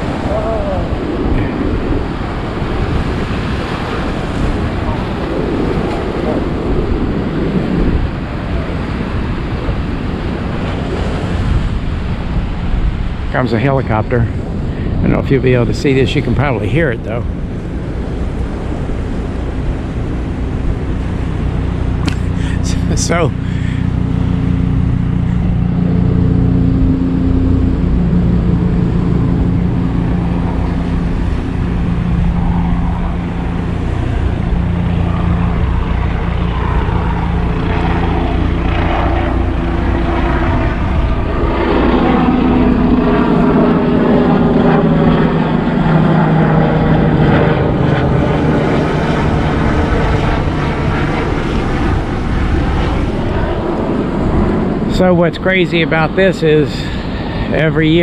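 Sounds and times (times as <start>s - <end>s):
helicopter droning: 0.0s - 58.0s
outdoor noise rush: 0.0s - 58.0s.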